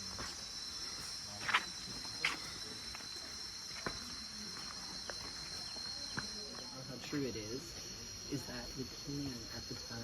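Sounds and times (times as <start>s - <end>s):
insect chorus droning: 0.0s - 10.0s.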